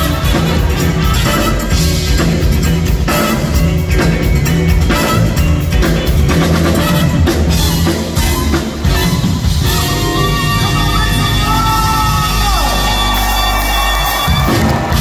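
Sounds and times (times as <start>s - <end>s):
funk band playing: 0.0s - 15.0s.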